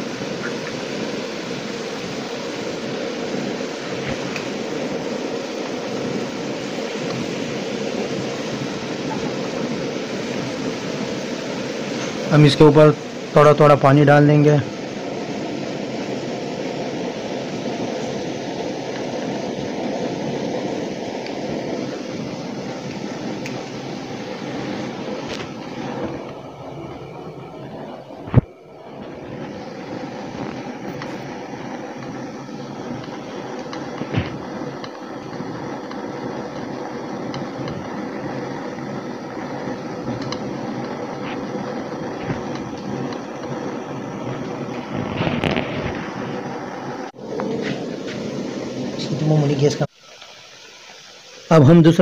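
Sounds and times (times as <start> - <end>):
water boiling in a pan: 0.0 - 52.0.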